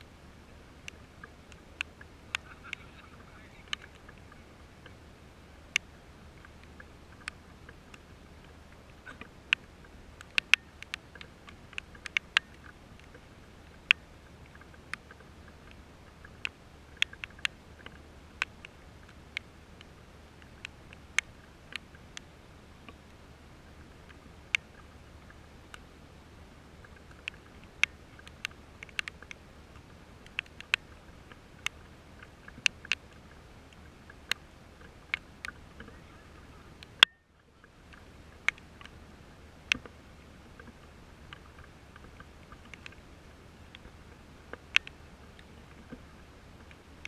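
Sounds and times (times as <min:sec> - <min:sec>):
faint steady hiss: 0:00.0 - 0:47.0
raindrops ticking near microphone: 0:00.0 - 0:47.0.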